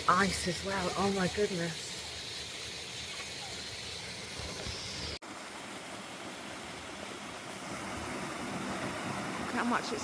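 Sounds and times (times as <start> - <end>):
waterfall pouring: 0.0 - 10.0.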